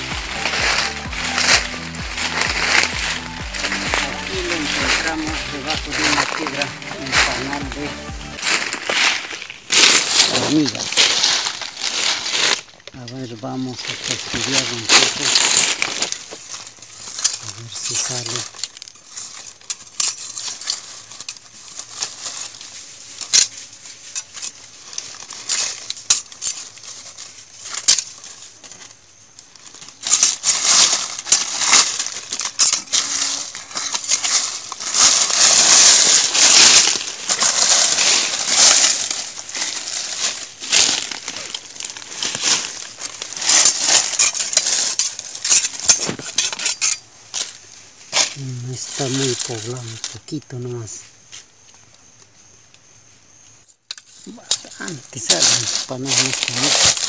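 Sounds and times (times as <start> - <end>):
dry leaves crackling: 0.0 - 51.3, 53.9 - 57.0.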